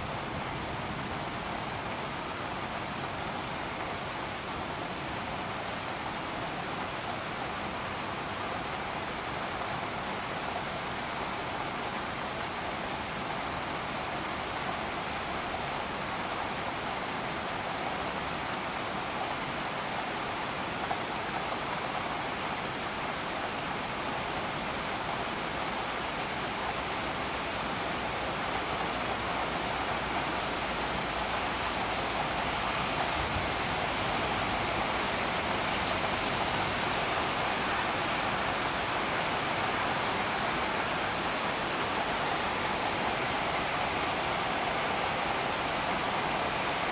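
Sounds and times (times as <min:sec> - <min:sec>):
steady rain hiss: 0:00.0 - 0:46.9.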